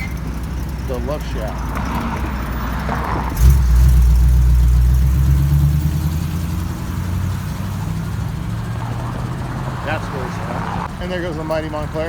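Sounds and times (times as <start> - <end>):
car engine pulling away: 0.0 - 12.0.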